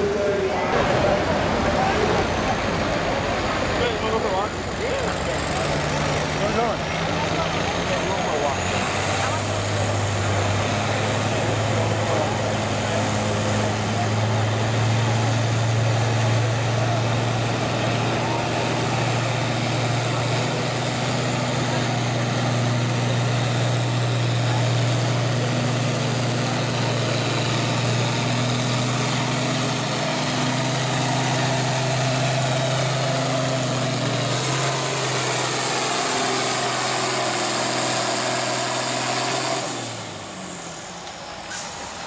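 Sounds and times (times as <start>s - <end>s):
tractor engine under load: 0.0s - 42.0s.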